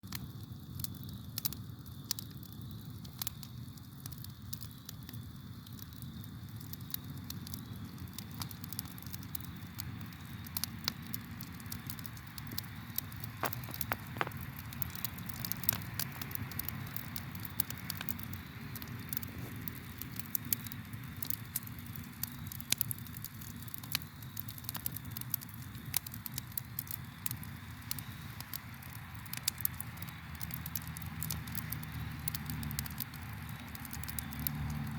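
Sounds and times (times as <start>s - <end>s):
campfire crackling and popping: 0.0s - 34.9s
low rumble of burning: 0.0s - 34.9s.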